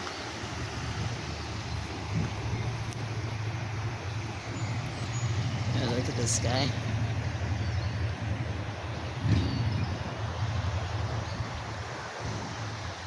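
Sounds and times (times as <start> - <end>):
low traffic rumble: 0.0 - 13.0
river running: 0.0 - 13.0.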